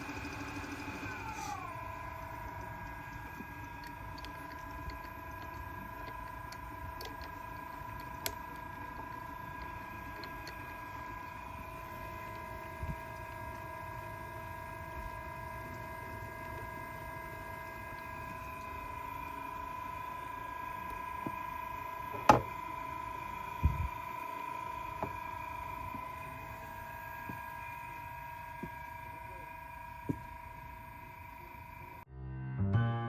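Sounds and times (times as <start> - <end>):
milling machine whining: 0.0 - 32.0.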